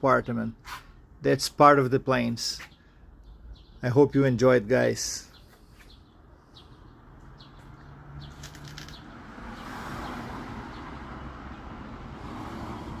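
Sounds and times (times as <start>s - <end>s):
small birds chirping: 0.1s - 11.7s.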